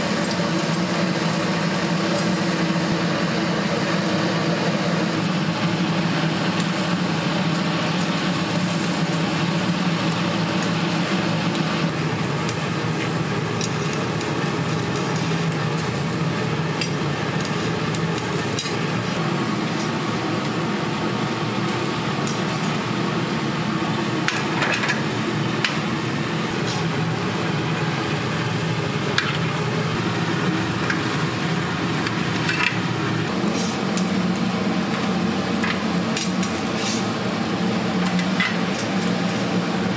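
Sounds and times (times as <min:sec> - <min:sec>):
food sizzling: 0:00.0 - 0:39.9.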